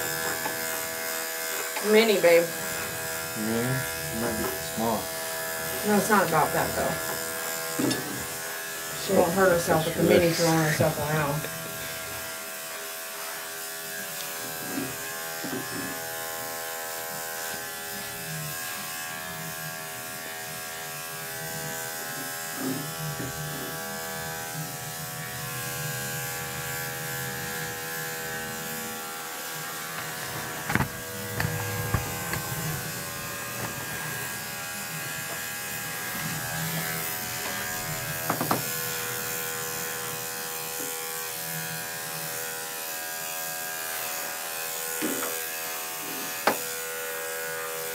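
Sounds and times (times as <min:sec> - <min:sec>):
electric clipper motor humming: 0:00.0 - 0:47.9.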